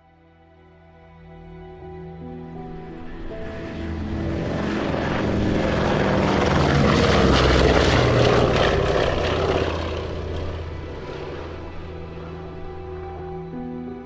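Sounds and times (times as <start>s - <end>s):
propeller aircraft engine drone: 2.5s - 14.0s.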